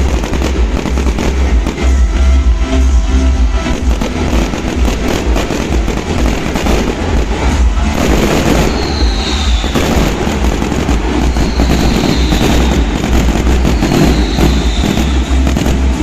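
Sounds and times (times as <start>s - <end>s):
fireworks whistling: 0.0s - 2.9s, 3.6s - 16.0s
fireworks crackling and banging: 0.0s - 16.0s
low rumble: 0.0s - 16.0s.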